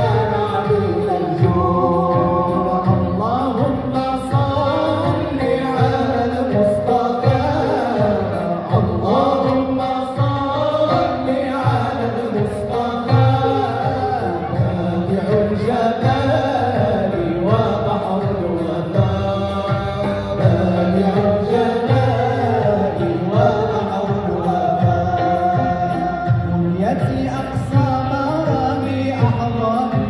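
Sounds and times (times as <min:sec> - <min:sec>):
oud: 0:00.0 - 0:30.0.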